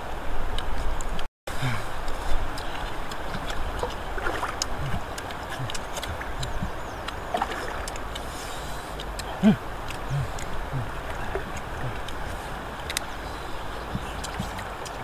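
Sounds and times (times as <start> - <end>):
water sloshing and splashing: 1.9 - 15.0.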